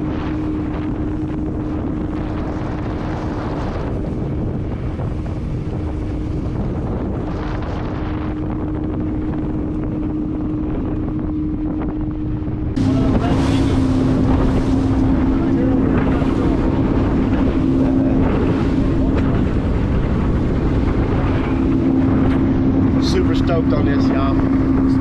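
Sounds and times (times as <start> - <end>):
boat engine humming: 0.0 - 25.0
wind on microphone: 0.0 - 25.0.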